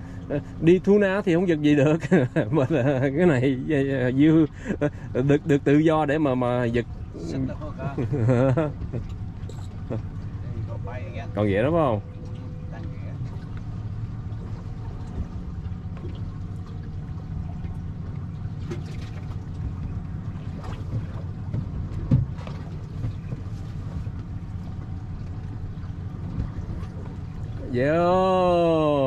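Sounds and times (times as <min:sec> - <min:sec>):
boat engine idling: 0:00.0 - 0:29.0.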